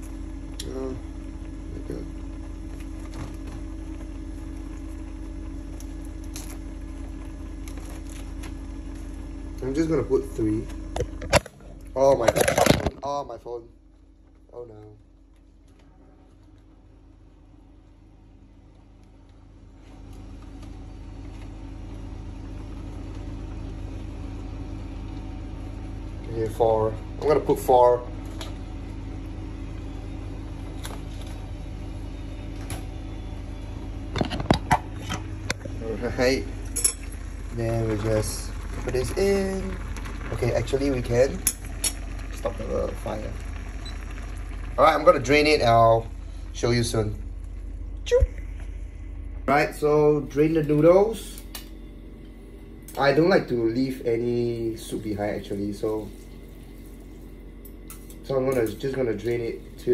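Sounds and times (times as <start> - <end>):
noodles bubbling at a boil: 0.0 - 32.0, 33.4 - 49.7, 53.0 - 59.9
steady low hum: 0.0 - 59.9.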